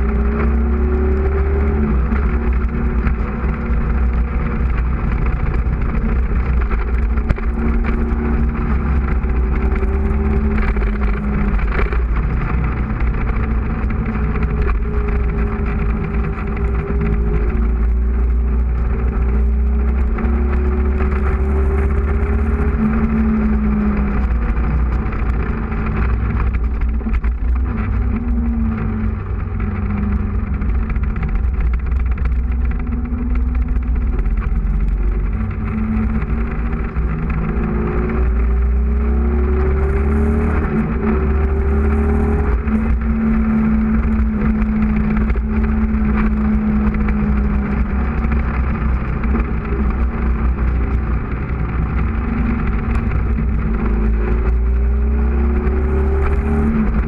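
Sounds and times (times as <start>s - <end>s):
motorcycle engine revving: 0.0s - 57.0s
wind noise: 0.0s - 57.0s.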